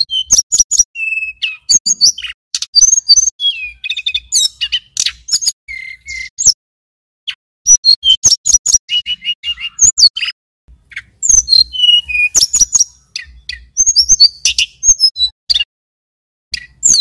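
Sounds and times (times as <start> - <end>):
bird chirping and trilling: 0.0 - 6.6, 7.3 - 15.7, 16.5 - 17.0.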